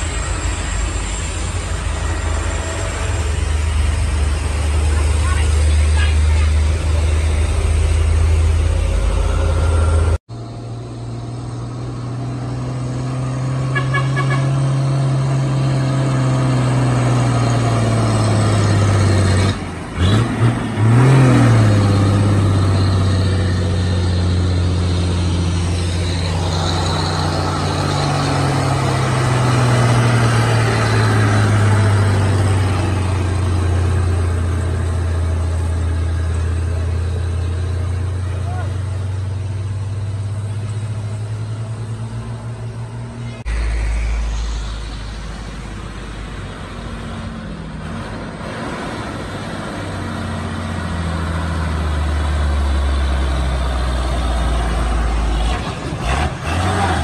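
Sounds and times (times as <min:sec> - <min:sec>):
diesel trucks pulling past: 0:00.0 - 0:57.0.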